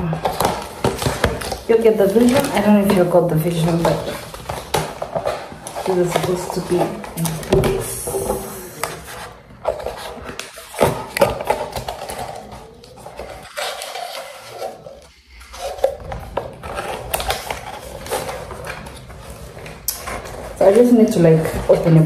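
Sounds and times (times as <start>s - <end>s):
packaging rustling and clicking: 0.0s - 22.0s.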